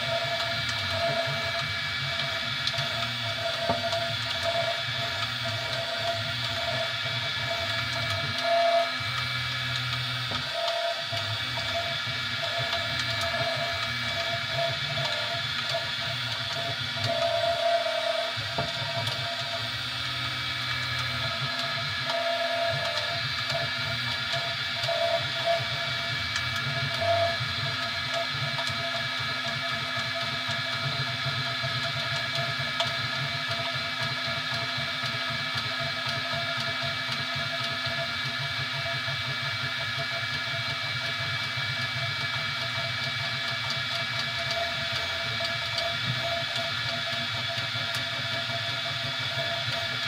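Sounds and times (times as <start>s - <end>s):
three d printer whining and humming: 0.0s - 50.0s.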